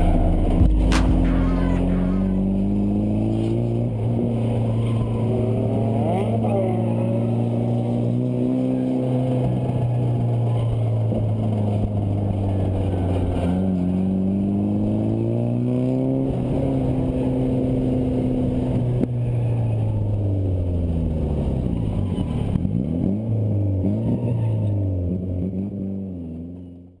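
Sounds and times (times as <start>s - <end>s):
turbocharged car engine revving: 0.0s - 26.3s.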